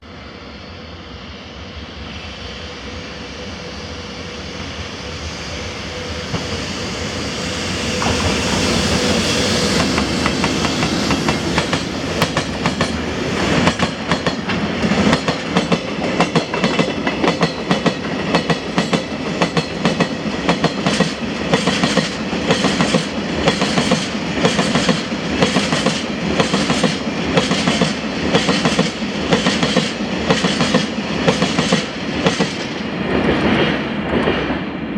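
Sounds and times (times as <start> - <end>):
freight train passing: 0.0 - 34.9.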